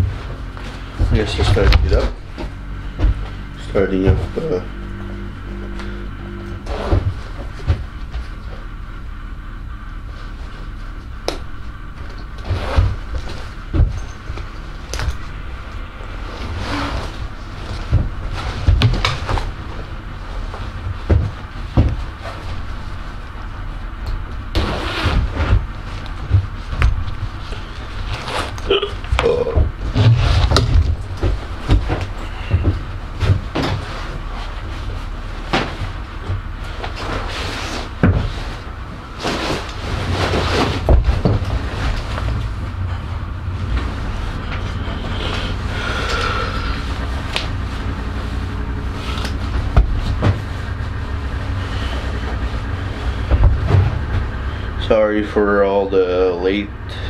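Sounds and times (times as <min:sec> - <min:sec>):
pants rustling and swishing: 0:00.0 - 0:54.9
low hum: 0:00.0 - 0:57.0
snowmobile engine idling: 0:00.0 - 0:57.0.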